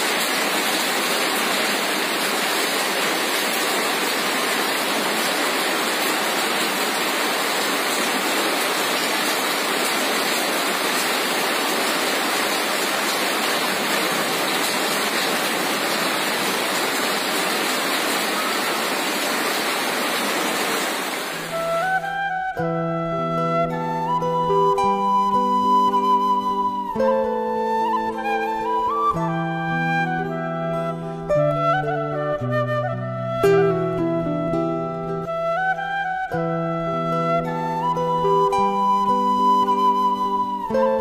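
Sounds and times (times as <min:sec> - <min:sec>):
rushing water: 0:00.0 - 0:41.0
flute music: 0:01.0 - 0:19.8, 0:21.2 - 0:41.0.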